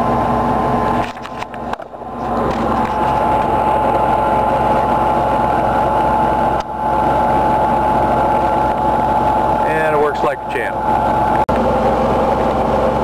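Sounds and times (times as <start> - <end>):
mechanical drone with whine: 0.0 - 13.0.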